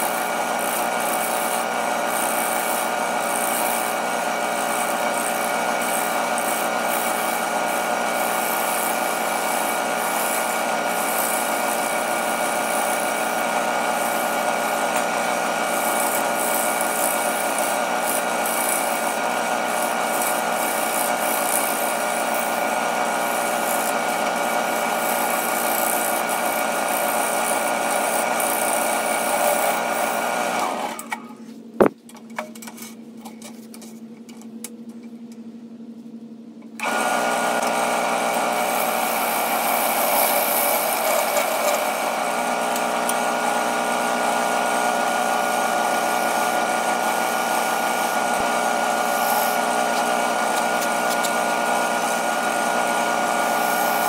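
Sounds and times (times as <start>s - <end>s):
gouge cutting wood hiss: 0.0s - 30.4s, 38.4s - 43.2s, 45.8s - 54.0s
lathe motor whine: 0.0s - 31.4s, 36.8s - 54.0s.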